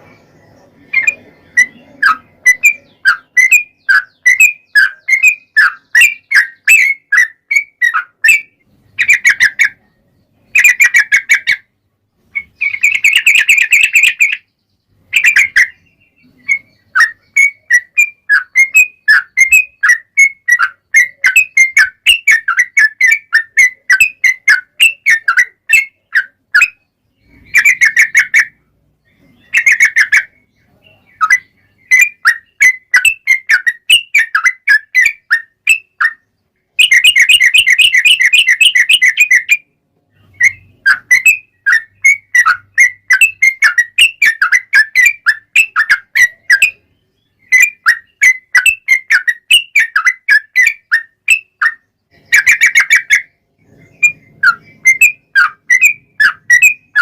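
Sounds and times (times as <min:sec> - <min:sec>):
bulbul singing: 0:00.0 - 0:57.0
fast bird trill: 0:00.0 - 0:57.0.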